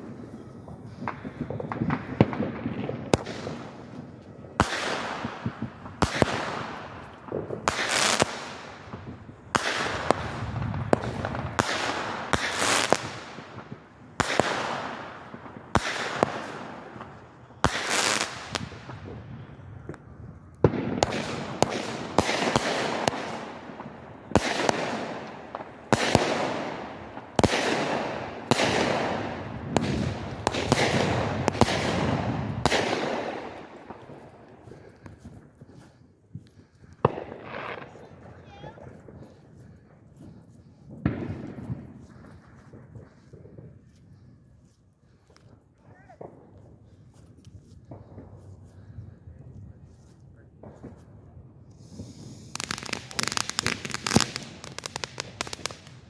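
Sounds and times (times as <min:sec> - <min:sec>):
fireworks bursting: 0:00.0 - 0:43.9, 0:50.6 - 0:56.0.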